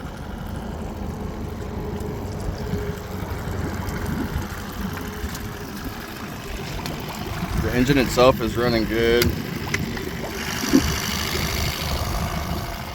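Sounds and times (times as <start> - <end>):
outboard motor idling: 0.0 - 12.9.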